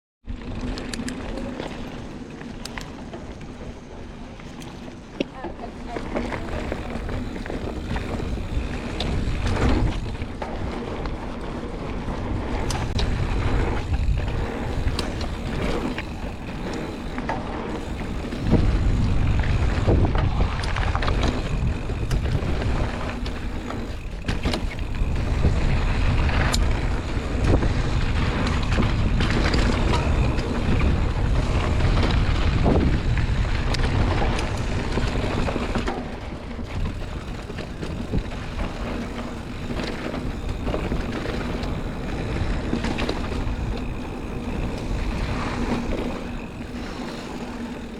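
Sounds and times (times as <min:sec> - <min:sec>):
knocks and rattles from riding: 0:05.1 - 0:47.9
wind rushing over microphone: 0:06.1 - 0:47.9.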